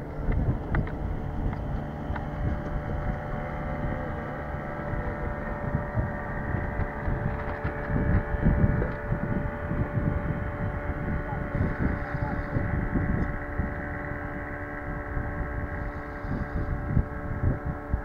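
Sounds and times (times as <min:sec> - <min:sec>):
steady low hum: 0:00.0 - 0:18.0
wind buffeting microphone: 0:00.0 - 0:18.0.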